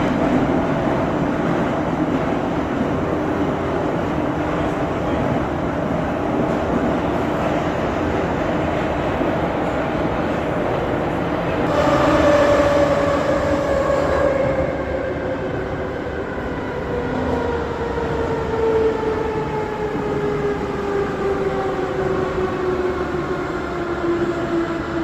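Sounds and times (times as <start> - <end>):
subway train motor whine: 0.0 - 25.0.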